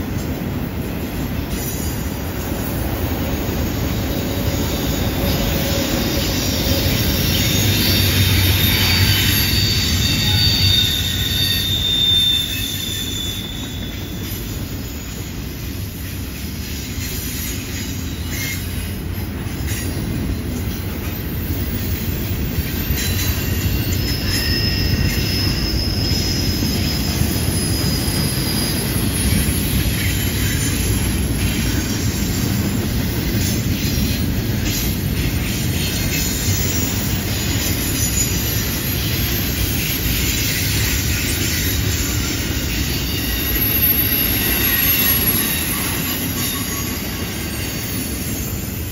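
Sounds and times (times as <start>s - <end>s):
freight train rumbling past: 0.0s - 48.9s
train wheels squealing: 0.0s - 48.9s.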